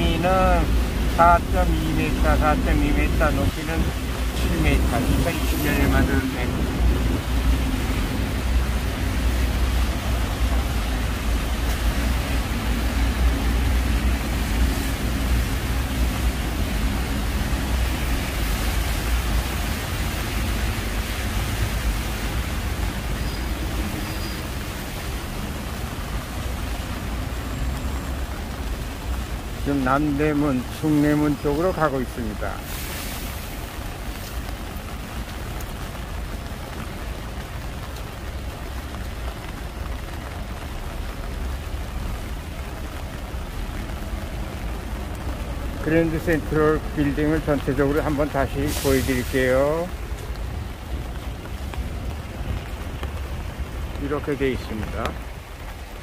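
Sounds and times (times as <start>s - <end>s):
heavy rain on street: 0.0s - 56.0s.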